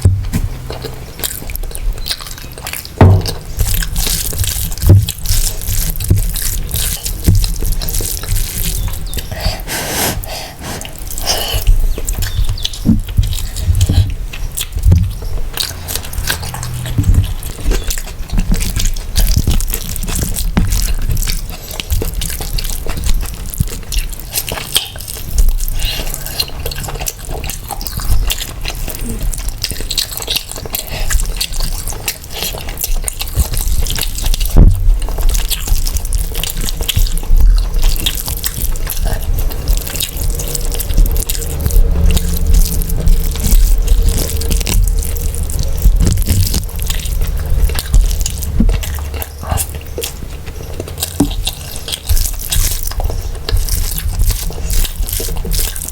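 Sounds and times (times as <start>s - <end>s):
sticky mouth clicks: 0.0s - 55.9s
wet chewing and lip smacking: 0.0s - 55.9s.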